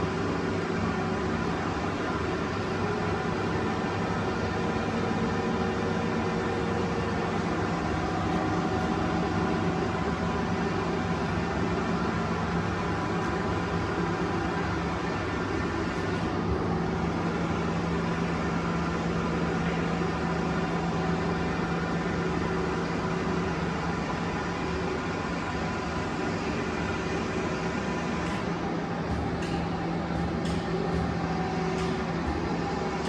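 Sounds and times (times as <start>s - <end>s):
lathe running with steady hum: 0.0s - 33.0s.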